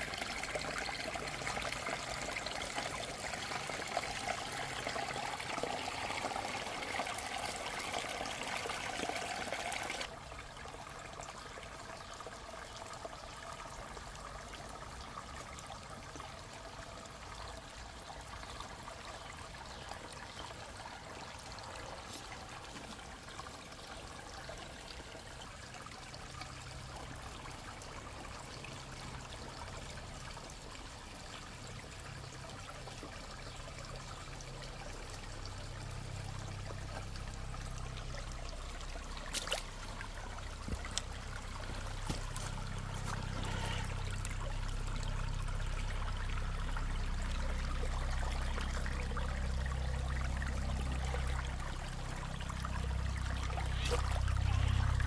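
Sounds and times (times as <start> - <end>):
creek water trickling over rocks: 0.0 - 55.0.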